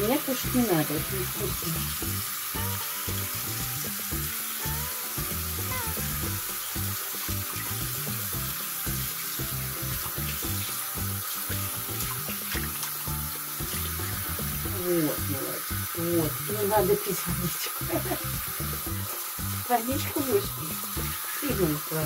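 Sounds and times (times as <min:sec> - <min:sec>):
background music: 0:00.0 - 0:22.0
tap water running into basin: 0:00.0 - 0:22.0.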